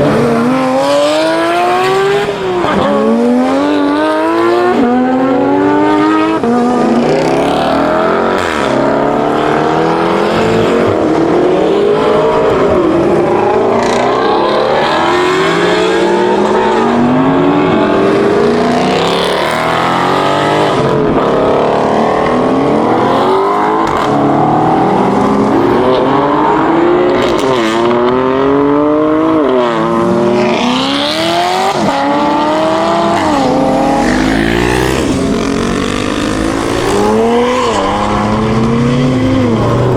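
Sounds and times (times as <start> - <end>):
car engines accelerating hard: 0.0 - 39.9.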